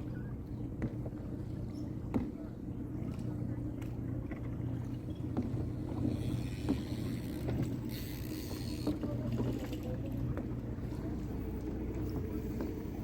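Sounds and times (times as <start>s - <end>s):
boat motor humming: 0.0s - 13.0s
water rushing along hull: 0.0s - 13.0s.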